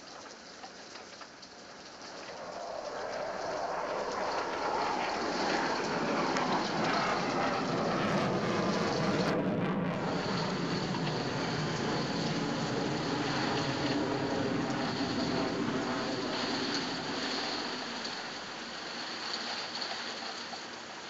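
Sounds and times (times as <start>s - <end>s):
aircraft engine rushing: 2.0s - 19.9s.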